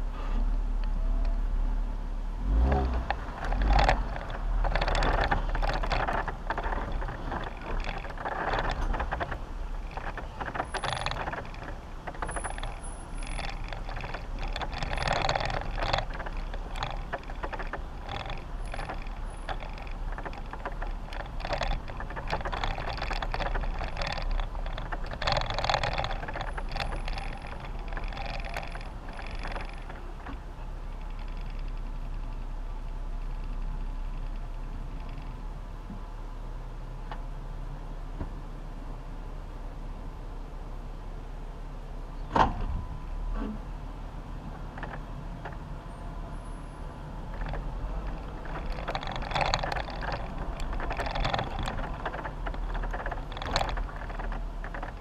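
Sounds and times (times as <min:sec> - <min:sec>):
vehicle engine rumble: 0:00.0 - 0:55.0
vehicle rattling over bumps: 0:00.7 - 0:55.0.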